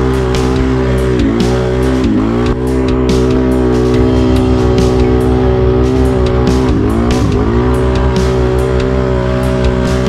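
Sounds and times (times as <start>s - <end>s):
engine running hard through mud: 0.0s - 10.0s
music playing: 0.0s - 10.0s.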